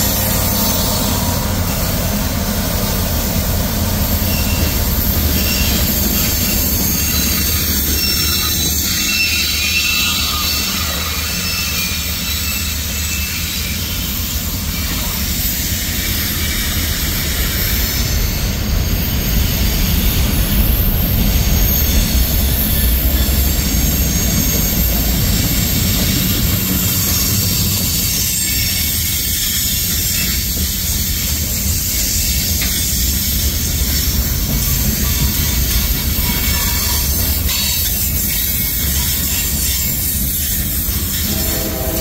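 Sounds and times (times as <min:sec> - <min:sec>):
freight train wheels on rail: 0:00.0 - 0:42.0.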